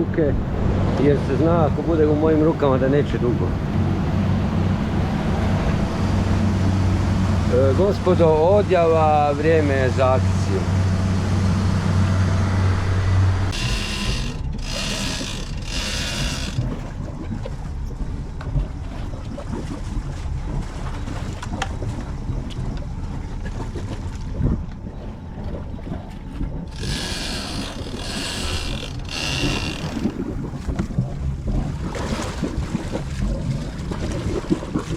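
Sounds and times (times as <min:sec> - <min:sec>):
motorboat engine and water rumble: 0:00.0 - 0:34.9.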